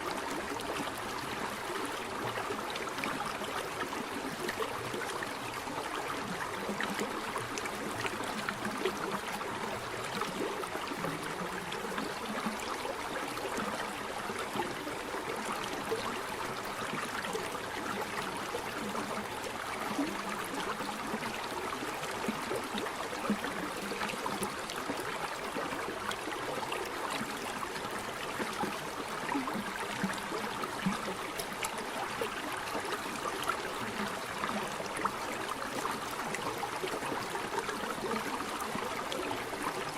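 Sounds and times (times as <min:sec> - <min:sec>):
stream splashing and gurgling: 0:00.0 - 0:39.9.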